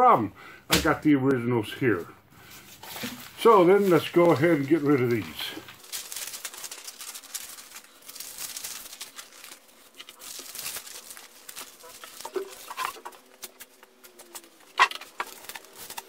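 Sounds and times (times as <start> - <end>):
paper rustling and crinkling: 2.4 - 16.0.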